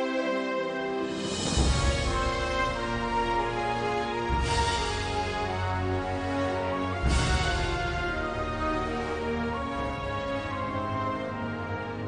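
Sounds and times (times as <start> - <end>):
background music with sustained notes: 0.0 - 12.0.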